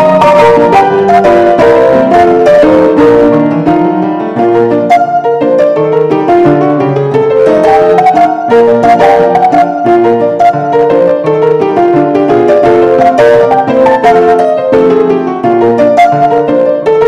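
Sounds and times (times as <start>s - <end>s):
piano background music: 0.0s - 17.0s.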